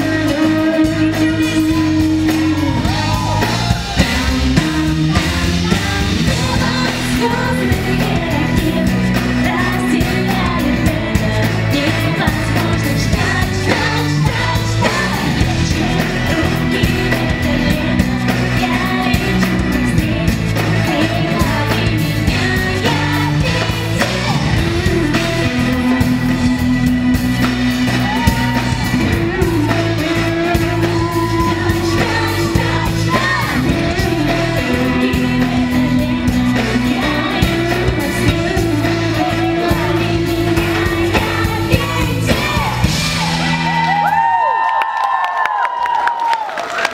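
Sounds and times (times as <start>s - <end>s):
pop-rock song with vocals: 0.0s - 44.7s.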